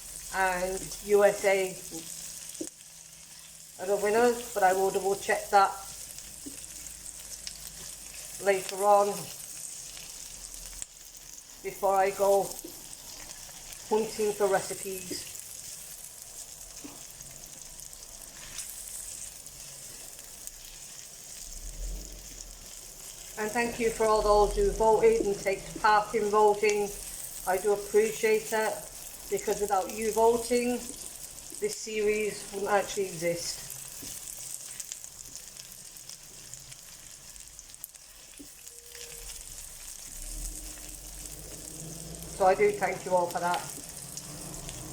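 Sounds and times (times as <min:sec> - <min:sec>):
onion sizzling in oil: 0:00.0 - 0:44.9.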